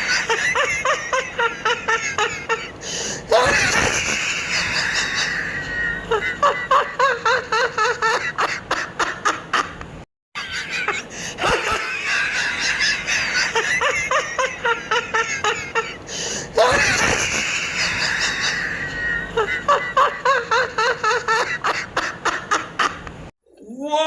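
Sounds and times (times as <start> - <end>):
rapid high-pitched laughter: 0.0 - 9.8, 10.4 - 16.0, 16.6 - 23.0.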